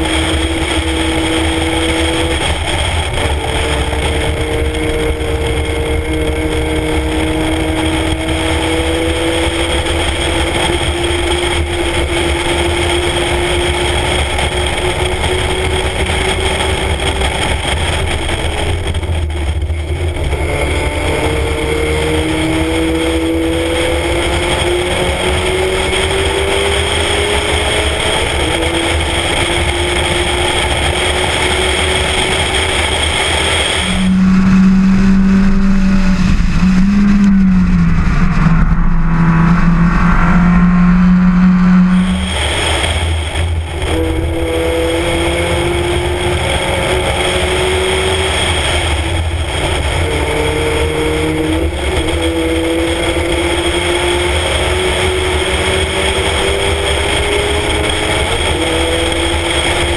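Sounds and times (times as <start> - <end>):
low engine drone: 0.0 - 59.9
race car engine revving: 0.0 - 59.9
wind rushing past microphone: 0.0 - 59.9.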